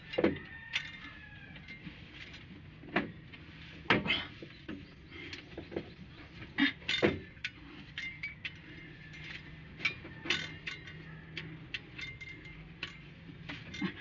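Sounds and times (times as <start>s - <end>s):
metal tools clinking: 0.0s - 2.5s, 5.2s - 14.0s.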